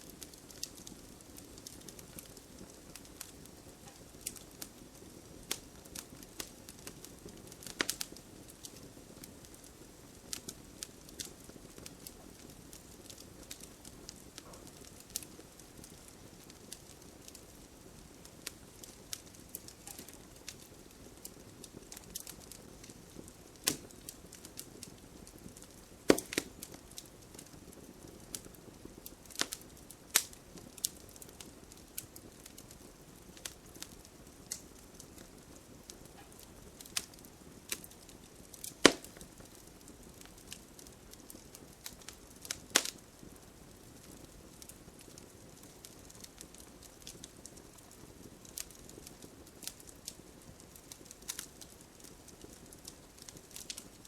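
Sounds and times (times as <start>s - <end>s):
campfire hiss: 0.0s - 54.0s
fire crackles and pops: 0.0s - 54.0s.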